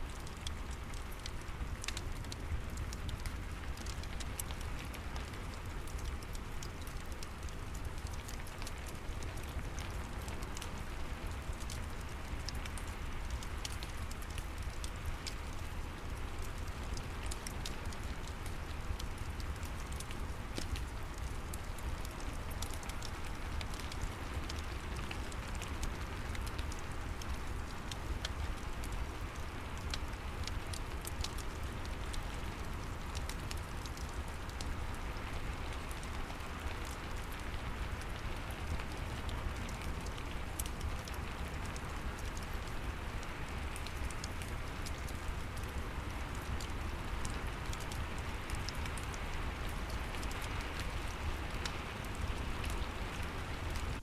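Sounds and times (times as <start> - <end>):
fireplace crackling: 0.1 - 54.0.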